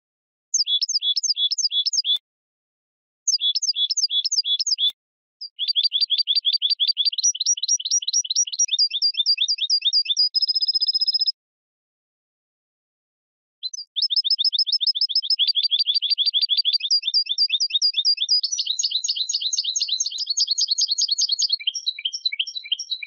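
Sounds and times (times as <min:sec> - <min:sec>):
bird twittering and trilling: 0:00.5 - 0:02.2, 0:03.3 - 0:11.3, 0:13.6 - 0:23.0.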